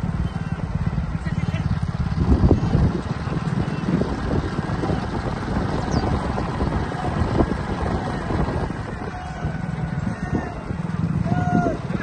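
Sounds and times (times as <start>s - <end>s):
vehicle rumble: 0.0s - 12.0s
wind buffeting microphone: 0.0s - 12.0s.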